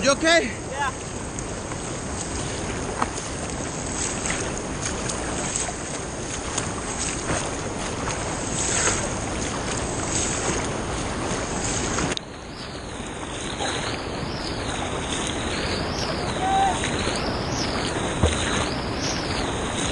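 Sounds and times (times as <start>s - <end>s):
water splashes: 0.0s - 19.9s
whitewater rushing: 0.0s - 19.9s.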